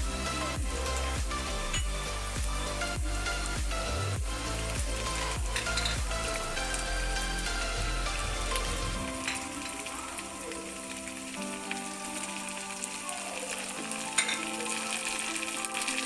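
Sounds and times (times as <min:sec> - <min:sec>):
oil sizzling in a wok: 0:00.0 - 0:16.0
soft background music: 0:00.0 - 0:16.0.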